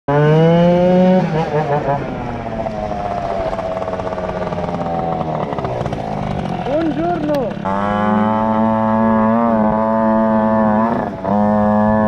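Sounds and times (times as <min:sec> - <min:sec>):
two-stroke scooter engine buzzing: 0:00.1 - 0:12.0.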